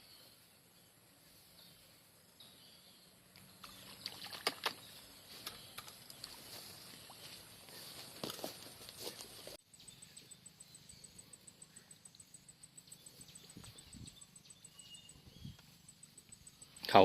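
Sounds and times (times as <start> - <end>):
insect chirping: 2.3 - 17.0.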